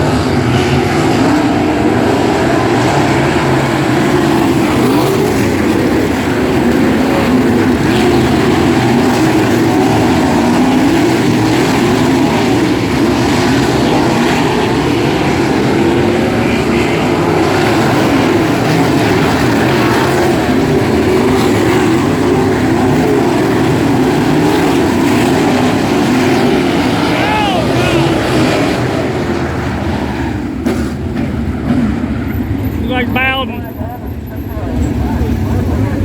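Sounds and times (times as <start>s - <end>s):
race car engines running hard: 0.0s - 36.0s.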